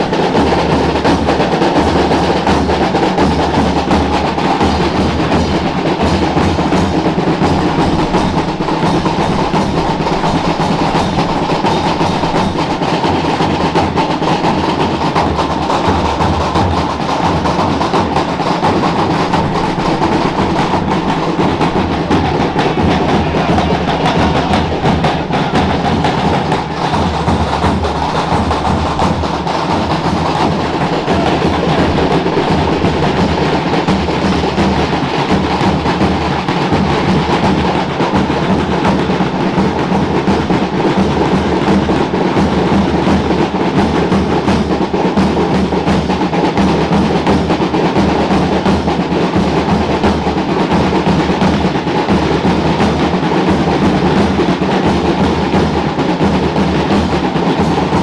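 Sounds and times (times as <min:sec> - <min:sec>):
drums beating rolling rhythm: 0:00.0 - 0:58.0.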